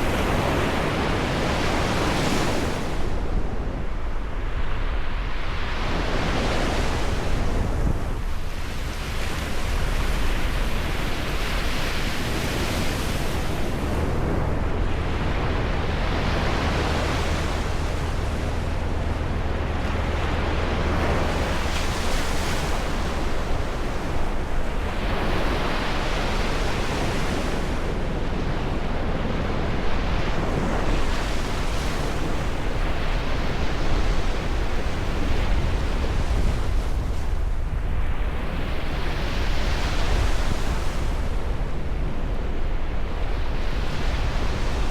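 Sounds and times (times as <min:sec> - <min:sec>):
ocean waves breaking on shore: 0:00.0 - 0:44.9
wind rumble on microphone: 0:00.0 - 0:44.9.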